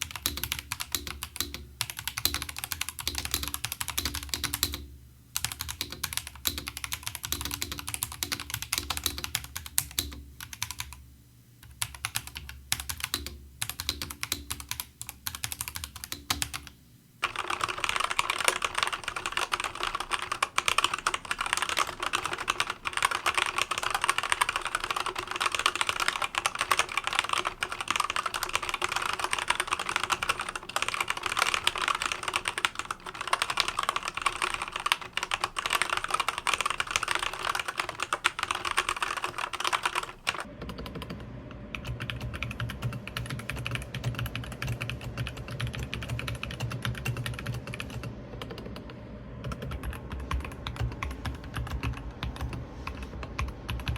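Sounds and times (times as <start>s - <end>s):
mechanical keyboard typing: 0.0s - 11.0s, 11.6s - 53.9s.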